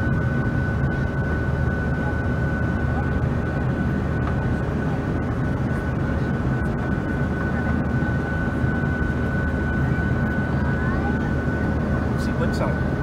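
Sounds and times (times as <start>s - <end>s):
airliner engine and airflow rumble: 0.0s - 13.0s
steady high whine: 0.0s - 13.0s.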